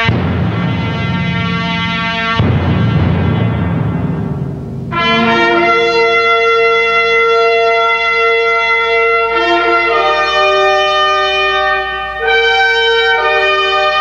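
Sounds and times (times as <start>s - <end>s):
held brass chords: 0.0s - 14.0s.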